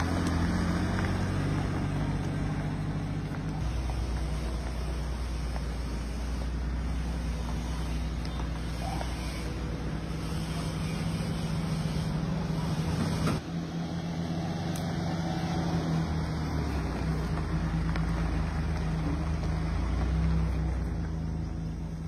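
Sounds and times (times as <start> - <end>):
minivan engine humming: 0.0 - 22.0.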